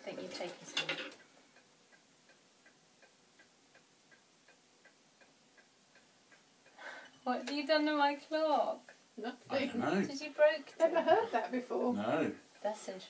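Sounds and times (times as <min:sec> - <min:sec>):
mantel clock ticking: 0:00.0 - 0:13.0.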